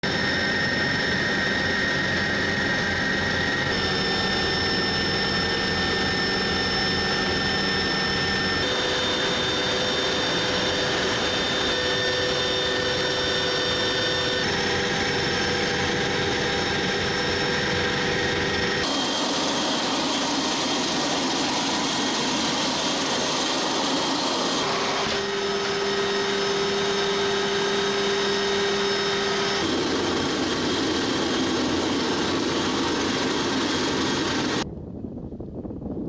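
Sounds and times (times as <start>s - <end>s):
aircraft turbine engine running: 0.0s - 35.7s
high turbine whines: 0.0s - 35.8s.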